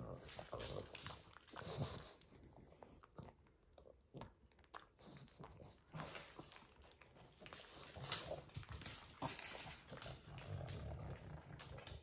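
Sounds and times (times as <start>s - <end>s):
dog chewing clicks and smacks: 0.0s - 12.0s.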